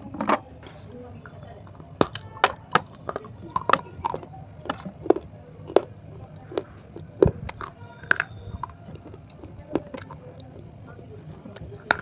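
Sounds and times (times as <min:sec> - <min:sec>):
crunchy chewing: 0:01.2 - 0:12.0.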